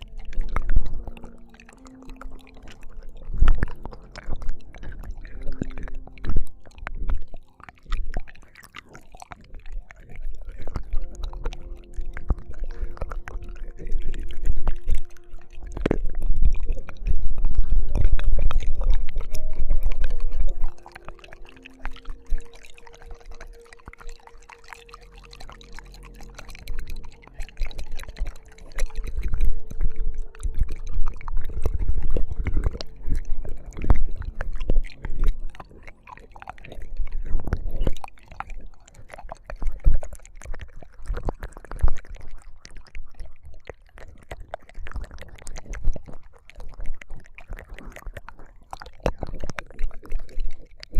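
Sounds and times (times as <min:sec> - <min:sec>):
wet mouth licks and smacks: 0:00.0 - 0:50.9.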